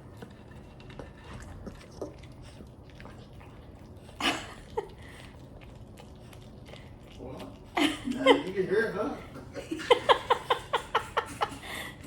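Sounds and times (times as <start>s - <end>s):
dog eating with clicks and smacks: 0.0s - 12.0s.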